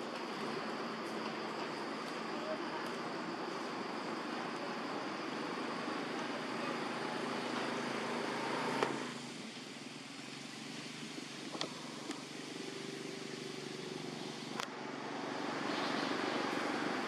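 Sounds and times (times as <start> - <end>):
outdoor background rumble: 2.8 - 17.0.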